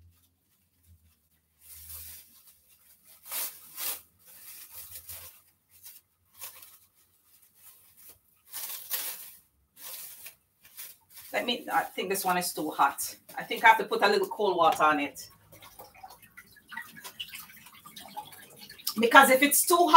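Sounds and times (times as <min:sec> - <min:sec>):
plastic bag crinkling: 0:00.0 - 0:14.4, 0:15.0 - 0:19.9.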